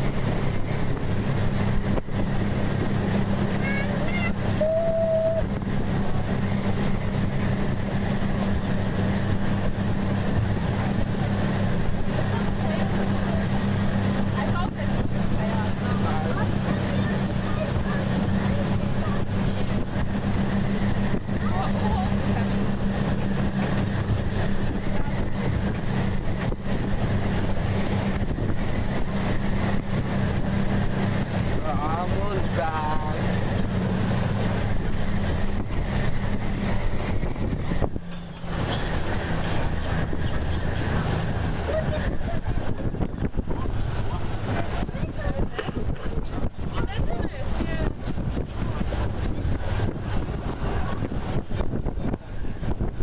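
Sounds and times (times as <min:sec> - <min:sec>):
boat motor droning: 0:00.0 - 0:53.0
wind buffeting microphone: 0:00.0 - 0:53.0.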